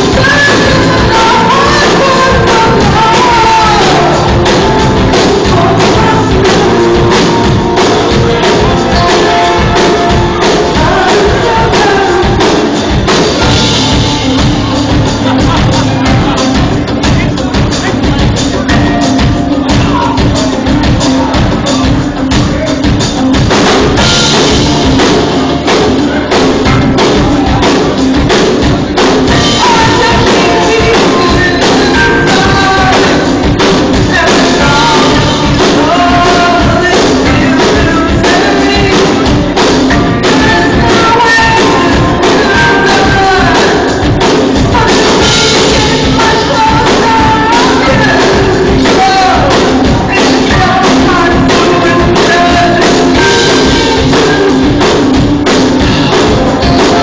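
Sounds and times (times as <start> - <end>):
person singing karaoke: 0.0 - 57.0
rock backing track: 0.0 - 57.0
steady drum beat: 0.0 - 57.0.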